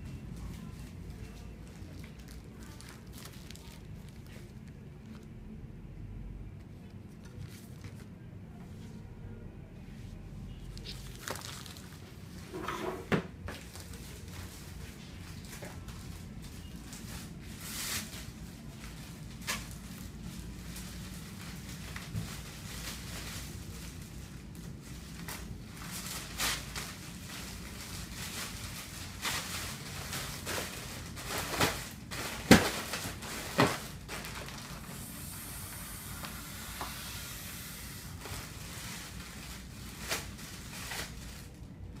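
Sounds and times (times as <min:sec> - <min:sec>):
plastic bag crinkling: 0:00.0 - 0:05.4, 0:06.8 - 0:08.2, 0:10.6 - 0:12.5, 0:13.6 - 0:42.0.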